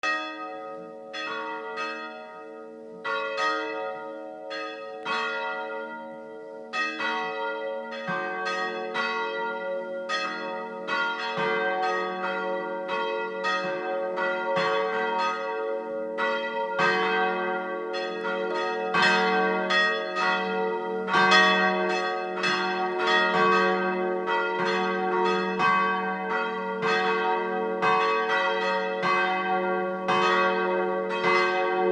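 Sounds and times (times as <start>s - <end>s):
church bells pealing: 0.0s - 31.9s.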